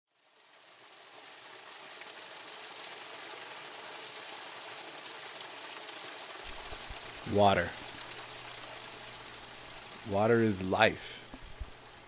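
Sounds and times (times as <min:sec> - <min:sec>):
water running over stones: 0:00.2 - 0:12.0.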